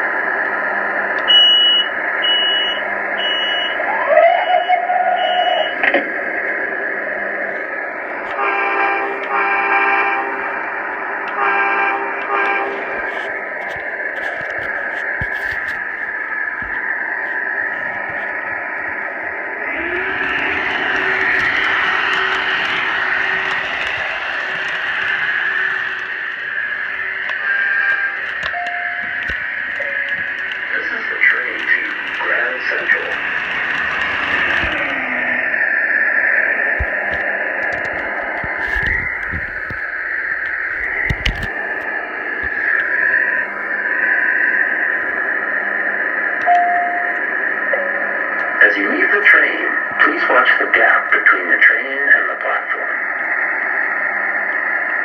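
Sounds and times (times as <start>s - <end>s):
steady hum: 0.0s - 4.0s, 5.2s - 55.0s
train running hiss: 0.0s - 55.0s.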